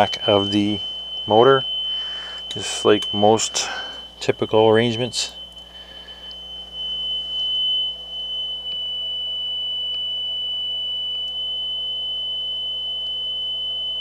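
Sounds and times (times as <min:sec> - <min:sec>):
steady test tone: 0:00.0 - 0:14.0.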